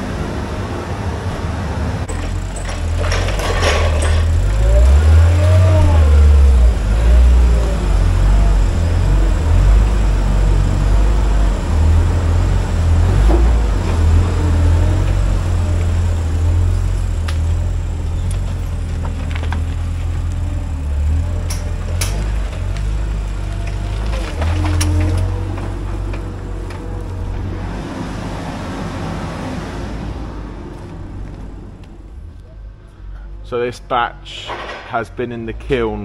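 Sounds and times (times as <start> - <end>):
forklift engine revving: 0.0 - 32.7.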